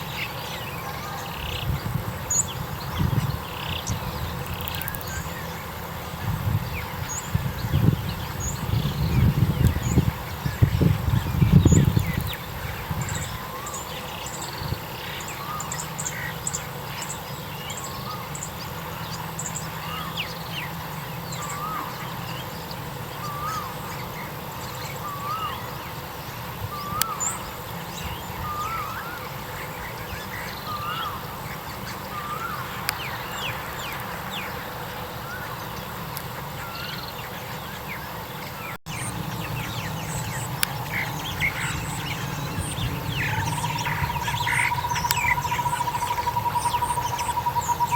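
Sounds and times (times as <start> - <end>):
other birds chirping: 0.0 - 47.9.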